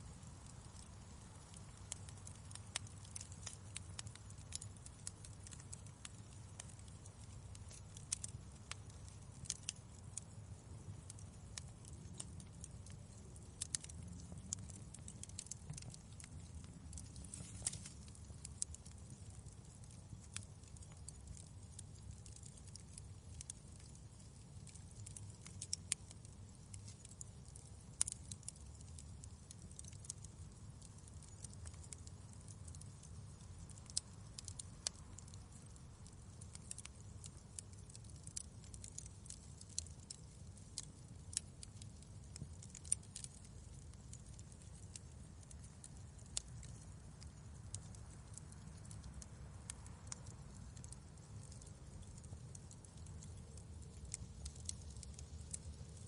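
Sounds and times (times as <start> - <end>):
fire low rumble: 0.0 - 56.0
wood fire crackling: 0.0 - 56.0.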